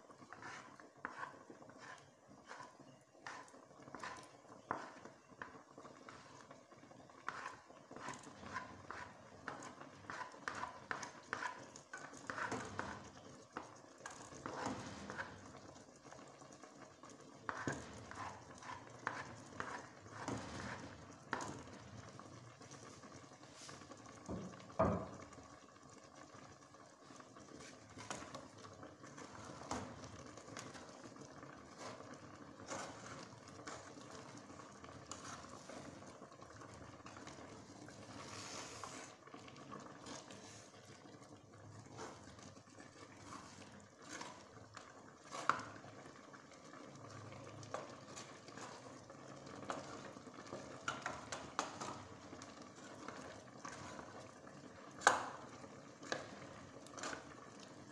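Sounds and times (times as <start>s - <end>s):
spatula scraping and squelching dough: 0.0s - 22.2s, 27.5s - 39.3s, 40.0s - 41.0s, 41.7s - 46.6s, 47.2s - 49.0s, 49.6s - 57.9s.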